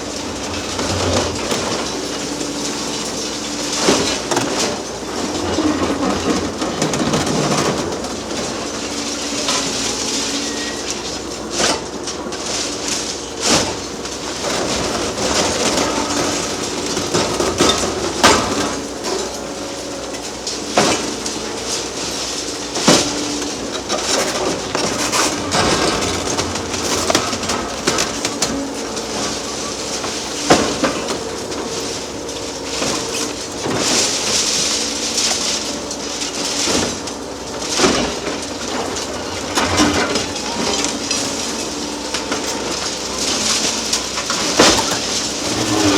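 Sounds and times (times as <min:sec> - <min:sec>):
diesel engine and hydraulics: 0:00.0 - 0:45.9.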